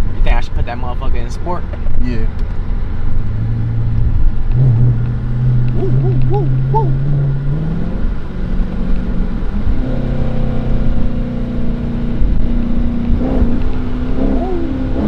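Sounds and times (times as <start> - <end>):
car engine accelerating hard: 1.4 - 15.0.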